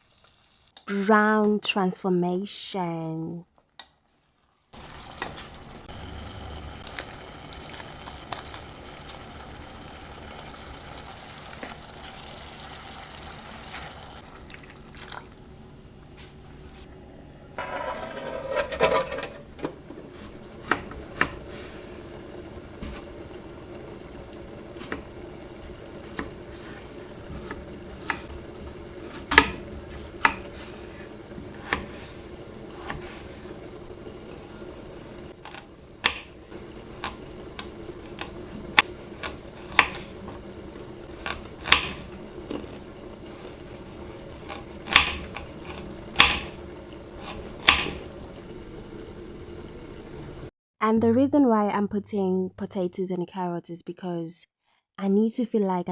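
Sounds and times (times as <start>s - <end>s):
minced meat frying: 0.0s - 0.9s, 3.6s - 16.9s, 17.6s - 50.5s.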